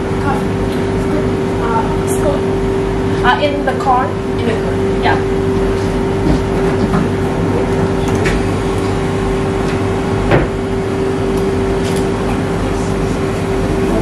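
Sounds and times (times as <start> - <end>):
machine hum with constant tone: 0.0 - 14.0.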